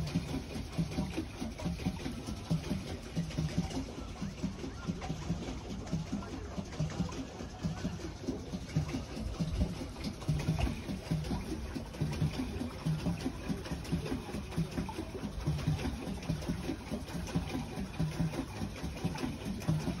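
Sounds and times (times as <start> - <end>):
paddle wheel churning water: 0.0 - 20.0.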